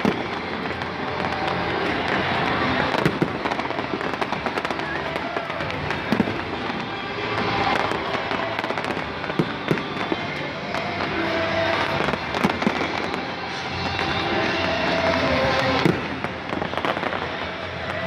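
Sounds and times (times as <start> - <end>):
background music: 0.0 - 18.0
fireworks popping and banging: 0.0 - 18.0.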